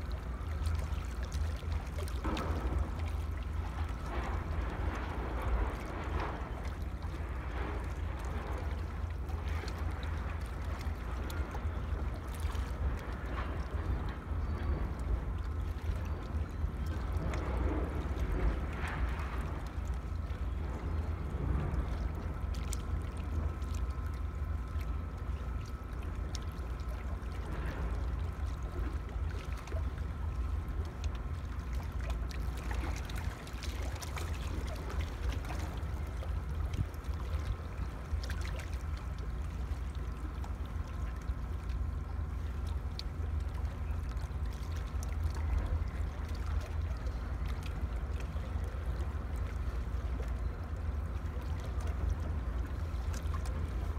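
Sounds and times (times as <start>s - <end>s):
seawater washing: 0.0s - 53.9s
wind rumble on microphone: 0.0s - 53.9s.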